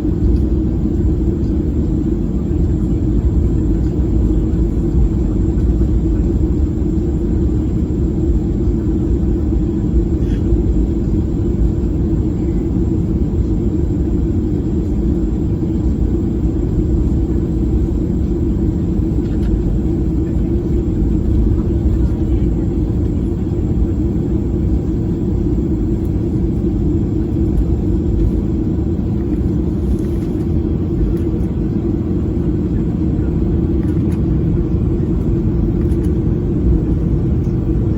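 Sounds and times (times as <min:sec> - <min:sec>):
airliner cabin engine drone: 0:00.0 - 0:37.9.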